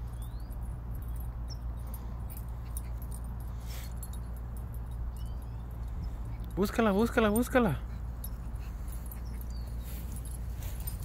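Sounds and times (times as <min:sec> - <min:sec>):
light jingling: 0:00.0 - 0:11.0
low outdoor rumble: 0:00.0 - 0:11.0.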